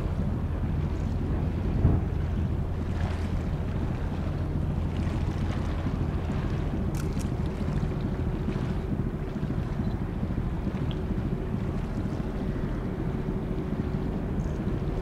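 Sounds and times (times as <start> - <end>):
ship engines droning: 0.0 - 15.0
wind rumbling on microphone: 0.0 - 15.0.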